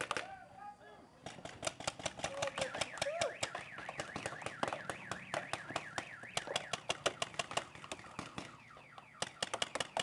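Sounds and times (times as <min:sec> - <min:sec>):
paintball markers firing: 0:00.0 - 0:00.4, 0:01.2 - 0:10.0.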